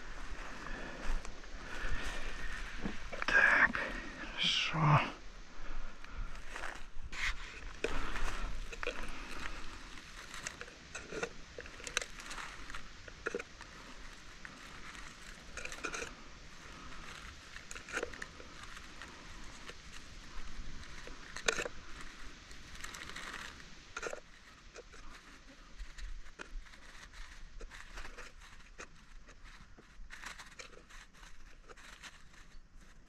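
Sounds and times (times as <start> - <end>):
dry leaves rustling and crackling: 0.0 - 4.2, 5.4 - 33.0.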